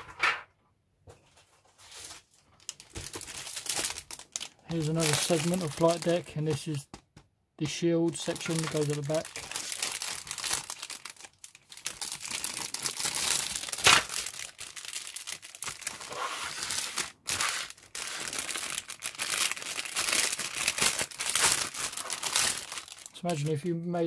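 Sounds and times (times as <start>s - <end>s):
plastic bags crinkling: 1.8s - 6.9s, 7.6s - 24.0s
loud plastic crackle: 2.2s - 6.7s, 7.6s - 23.7s.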